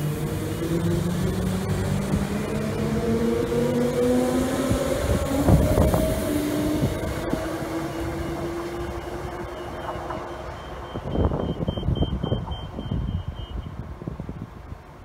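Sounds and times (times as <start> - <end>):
electric train motors whining: 0.0 - 13.5.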